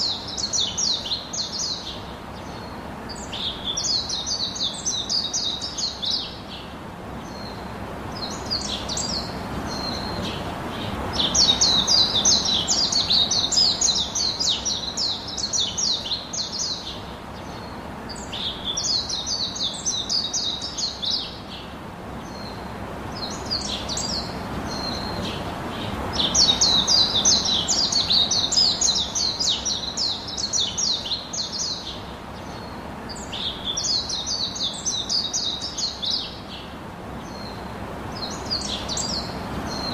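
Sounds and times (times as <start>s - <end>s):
bird chirping in trills: 0.0s - 22.6s, 23.2s - 37.6s, 38.2s - 39.9s.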